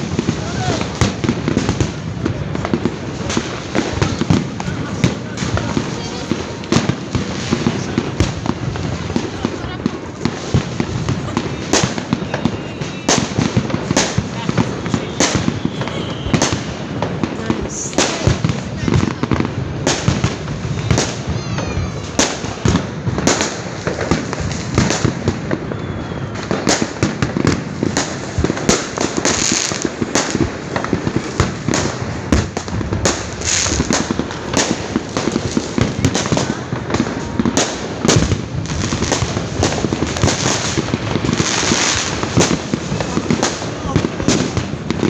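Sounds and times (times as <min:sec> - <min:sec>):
firework whistle: 0:00.0 - 0:45.0
fireworks and firecrackers banging: 0:00.0 - 0:45.0.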